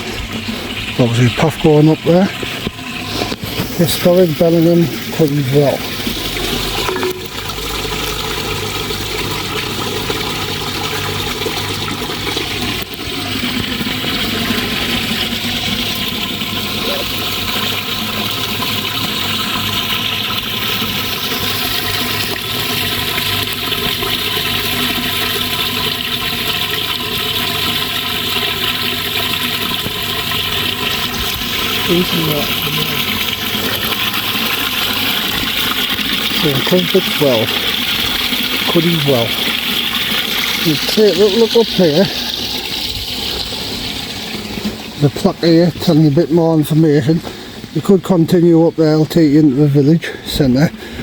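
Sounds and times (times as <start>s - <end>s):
water running and splashing: 0.0s - 51.0s.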